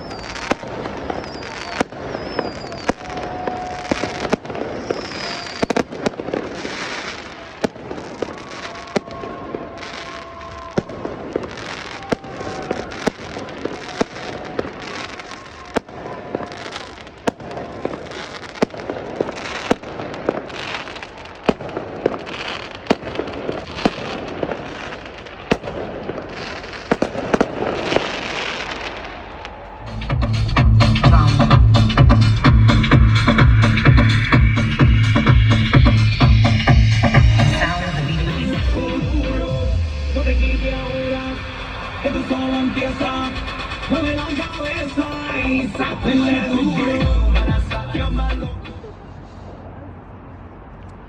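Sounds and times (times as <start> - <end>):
fireworks whistling: 0.0 - 49.0
fireworks bangs: 0.0 - 49.8
fireworks crackling: 0.0 - 50.4.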